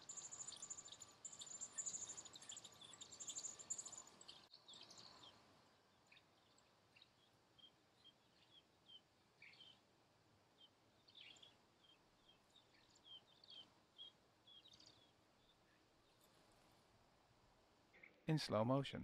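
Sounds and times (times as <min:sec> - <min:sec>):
faint high bird chirps: 0:00.0 - 0:09.9, 0:10.6 - 0:16.4.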